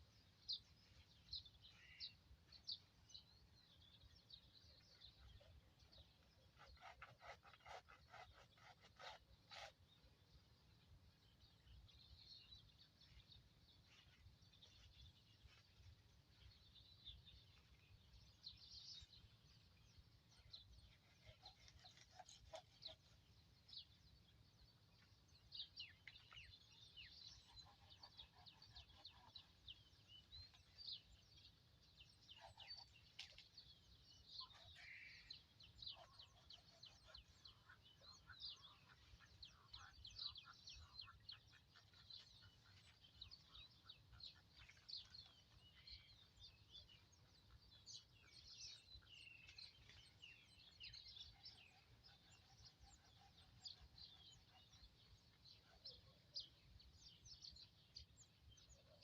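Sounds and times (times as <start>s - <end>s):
birds chirping: 0.2s - 59.0s.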